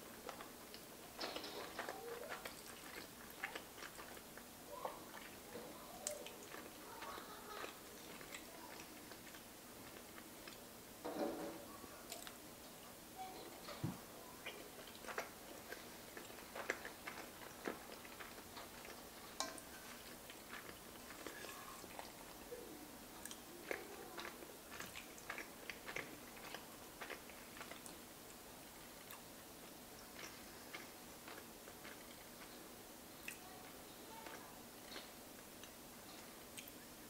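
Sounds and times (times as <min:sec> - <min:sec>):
chewing soft pasta: 0:00.0 - 0:10.9, 0:11.7 - 0:37.0.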